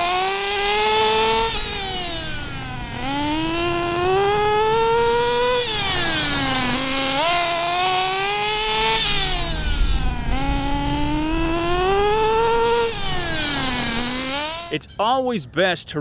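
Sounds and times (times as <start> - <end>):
nitro engine high-pitched whine: 0.0 - 15.6.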